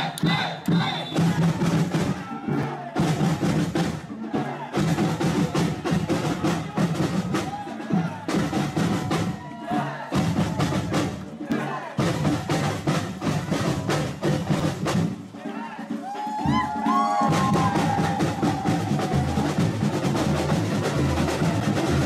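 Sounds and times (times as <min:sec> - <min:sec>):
samba drumming: 0:00.0 - 0:22.0.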